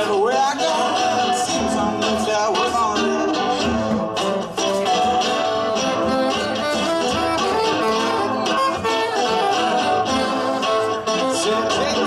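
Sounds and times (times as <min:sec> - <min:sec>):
strummed guitar: 0:00.0 - 0:12.0
held melody notes: 0:00.8 - 0:12.0.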